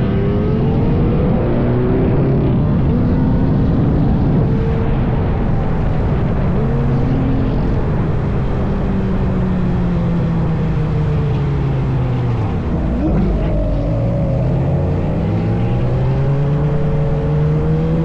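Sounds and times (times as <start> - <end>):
steady rushing noise: 0.0 - 18.0
vehicle engines running: 0.0 - 18.0.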